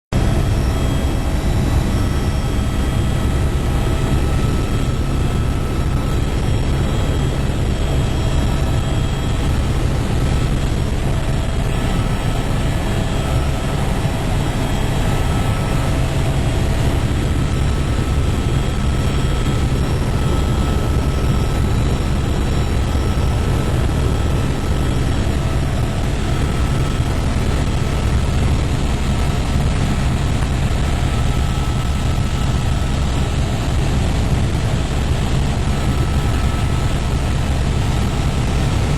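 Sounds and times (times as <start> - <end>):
helicopter rotor and engine drone: 0.1 - 38.9
thin steady whine: 0.2 - 38.9.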